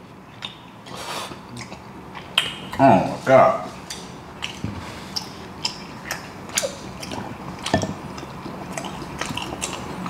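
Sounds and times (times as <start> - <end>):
chewing clicks and smacks: 0.3 - 2.8, 3.8 - 10.0.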